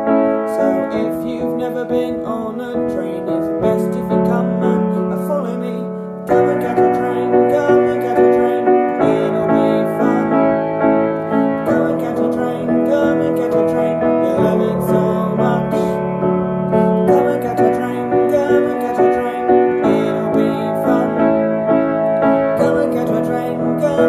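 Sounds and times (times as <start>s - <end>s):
piano playing sustained chords: 0.0s - 24.0s.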